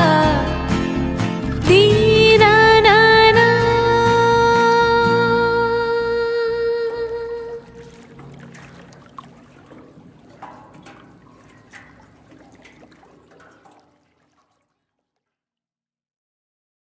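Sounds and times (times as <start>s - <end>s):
faint water trickling: 0.0s - 15.5s.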